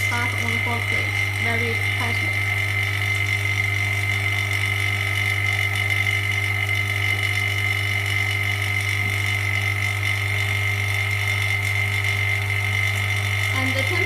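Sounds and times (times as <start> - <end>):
vacuum pump running: 0.0 - 14.0.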